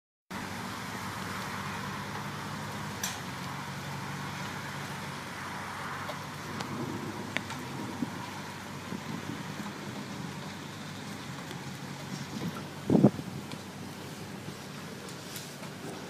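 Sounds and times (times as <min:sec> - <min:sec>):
vehicle engine humming: 0:00.3 - 0:16.0.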